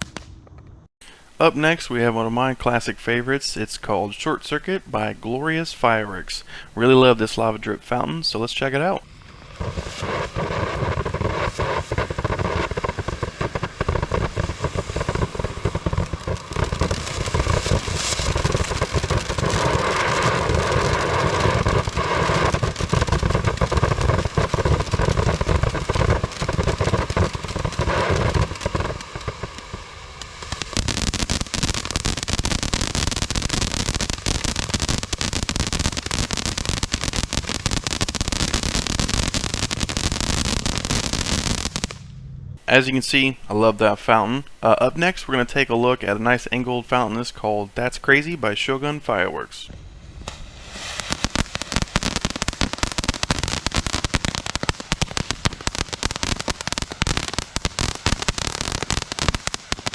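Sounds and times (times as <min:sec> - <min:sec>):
firework fountain crackling spray: 0:00.0 - 0:42.0, 0:42.6 - 0:49.5, 0:50.1 - 0:59.9.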